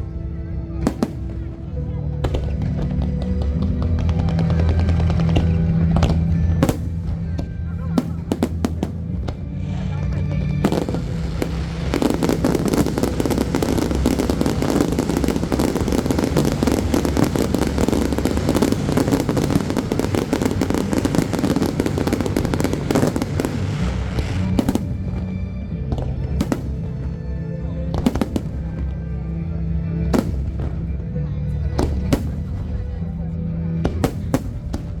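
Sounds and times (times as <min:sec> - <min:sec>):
fireworks bangs and crackling: 0:00.0 - 0:35.0
music with steady bass: 0:00.0 - 0:35.0.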